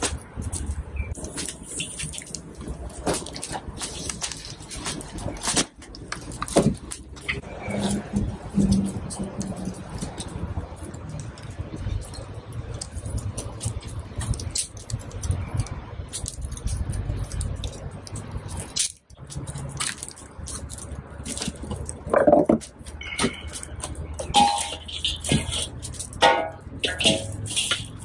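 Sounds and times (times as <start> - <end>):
dry twigs rustling: 0.0 - 28.0
wood fire crackling and popping: 0.0 - 28.0.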